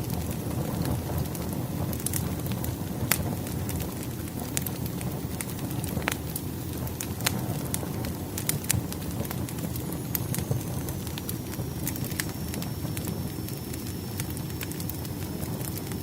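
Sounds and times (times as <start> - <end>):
fire popping and crackling: 0.0 - 16.0
low rumble of burning logs: 0.0 - 16.0.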